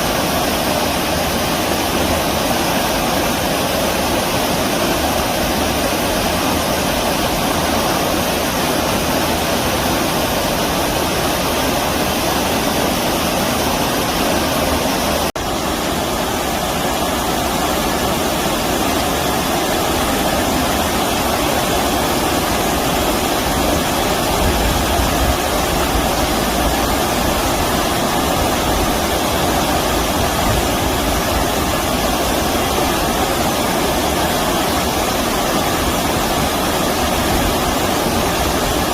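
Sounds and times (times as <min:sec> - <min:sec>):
stream water flowing over rocks: 0:00.0 - 0:38.9.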